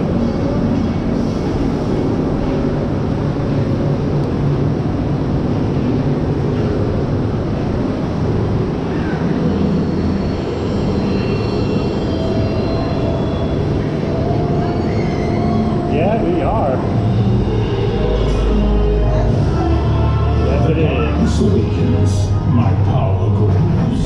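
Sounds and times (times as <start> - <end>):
roller coaster rumble: 0.0 - 24.0.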